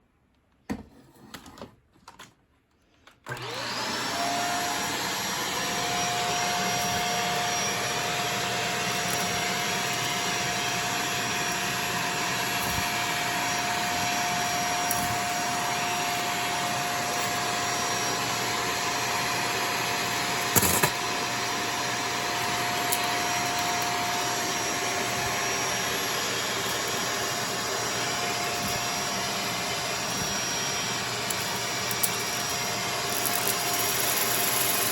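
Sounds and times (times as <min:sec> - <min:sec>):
vacuum cleaner motor whining: 0:03.2 - 0:34.9.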